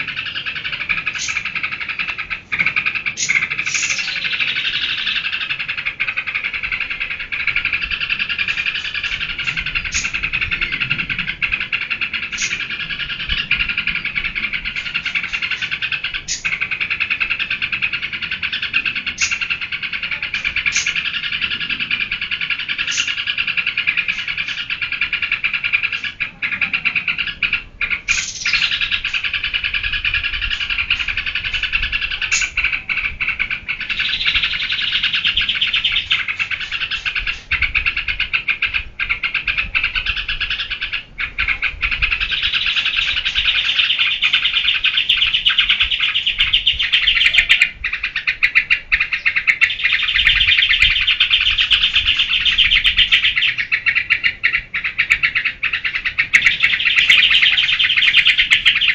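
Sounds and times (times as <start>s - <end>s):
bulbul rapid chattering song: 0.0s - 58.9s.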